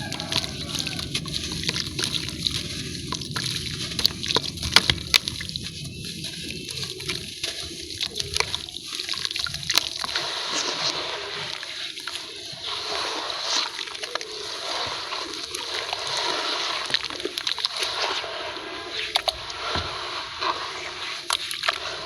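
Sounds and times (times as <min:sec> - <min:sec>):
cement cakes crumbling in water: 0:00.0 - 0:12.8, 0:13.4 - 0:22.0
watery hiss and splashing: 0:00.0 - 0:22.0.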